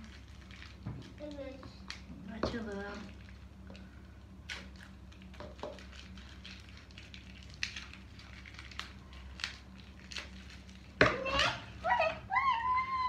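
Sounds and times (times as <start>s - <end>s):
soft crinkling: 0.0s - 12.3s
low steady hum: 0.0s - 13.0s.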